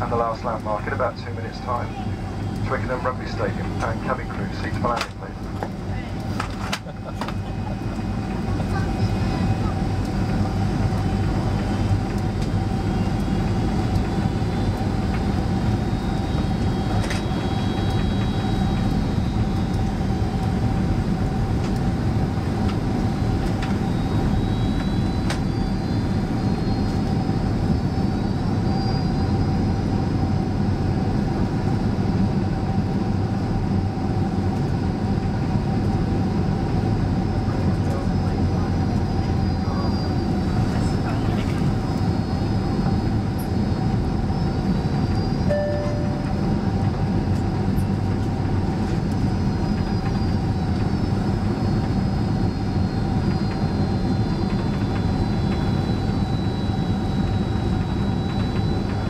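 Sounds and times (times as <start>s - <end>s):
air rushing in cabin: 0.0s - 59.0s
constant hum: 0.0s - 59.0s
jet engines roaring: 0.0s - 59.0s.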